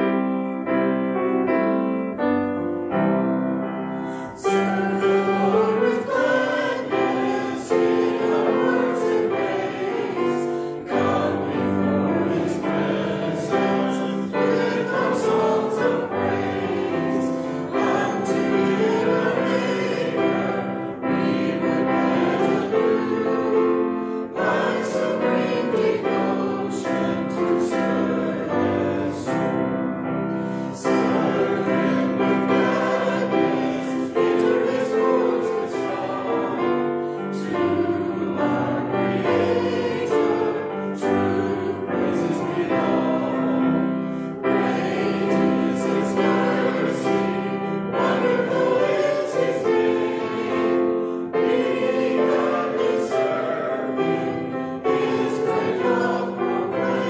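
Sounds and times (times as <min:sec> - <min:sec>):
choir and congregation singing hymn: 0:00.0 - 0:57.0.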